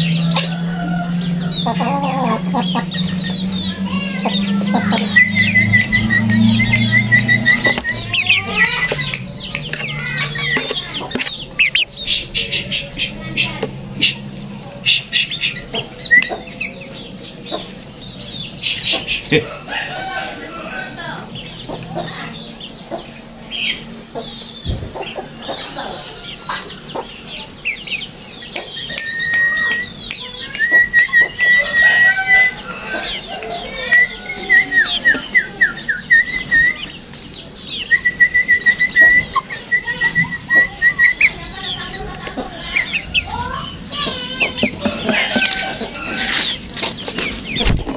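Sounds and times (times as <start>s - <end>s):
bird chattering trills: 0.0s - 47.9s.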